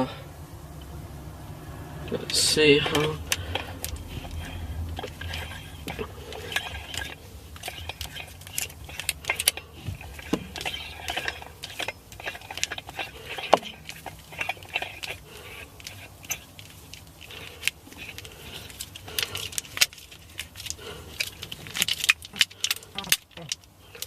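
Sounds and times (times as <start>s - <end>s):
metal and plastic parts clicking: 2.3s - 24.0s.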